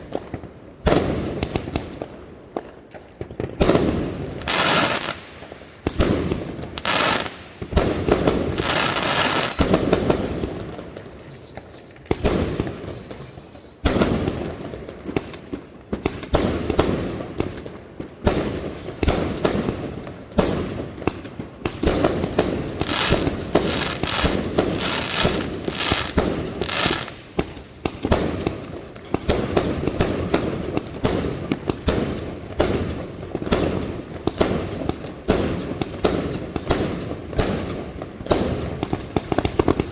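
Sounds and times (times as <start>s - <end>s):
fireworks bangs and crackles: 0.0s - 39.9s
whistling fireworks: 0.0s - 39.9s.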